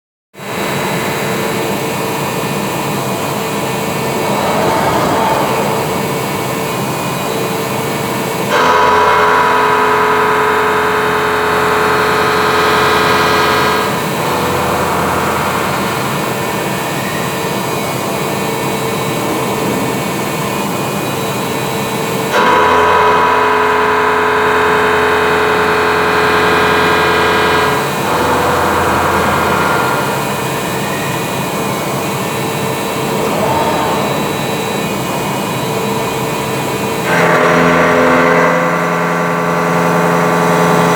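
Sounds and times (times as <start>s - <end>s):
milling machine hum and whine: 0.4s - 40.9s.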